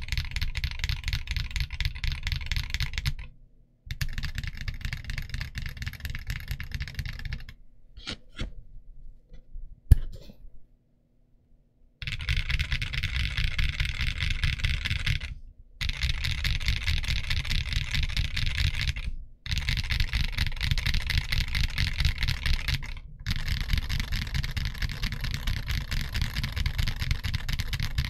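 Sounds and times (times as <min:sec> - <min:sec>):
mechanical keyboard typing: 0:00.0 - 0:03.3, 0:03.9 - 0:07.6, 0:12.0 - 0:28.0.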